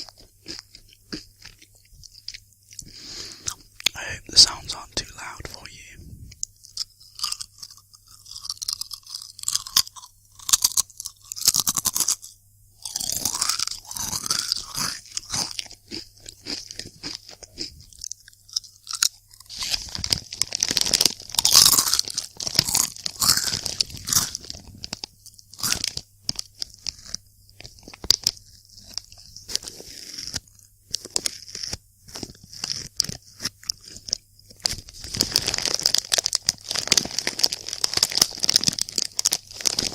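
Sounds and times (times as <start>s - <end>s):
crunching and chewing crisps: 0.0s - 39.9s.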